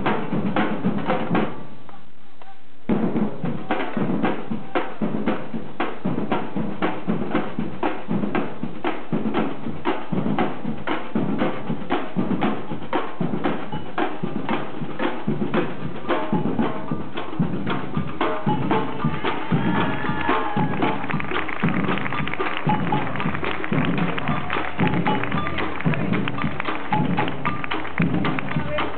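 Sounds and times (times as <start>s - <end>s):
deep bass drum beats: 0.0s - 1.7s, 2.9s - 28.9s
drums playing steady rhythm: 0.0s - 28.9s.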